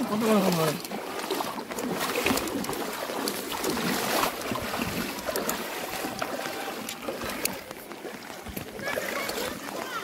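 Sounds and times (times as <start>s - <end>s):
water sloshing around wading legs: 0.0s - 10.0s.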